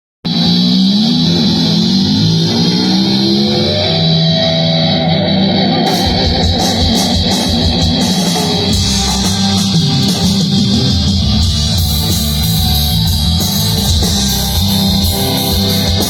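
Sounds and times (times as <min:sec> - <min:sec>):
drums: 0:00.2 - 0:16.0
guitar melody: 0:00.6 - 0:16.0.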